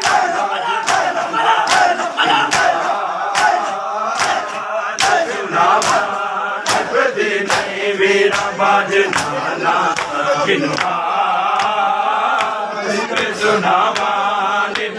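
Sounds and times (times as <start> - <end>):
hands slapping chests: 0.0 - 14.9
men chanting in unison: 0.0 - 14.9.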